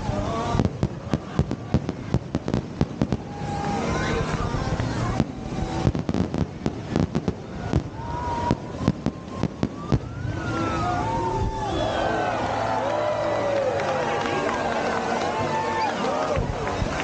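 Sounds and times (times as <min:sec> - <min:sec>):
fireworks bangs and cracks: 0:00.0 - 0:12.0, 0:13.6 - 0:17.0
noisy rumble: 0:00.0 - 0:17.0.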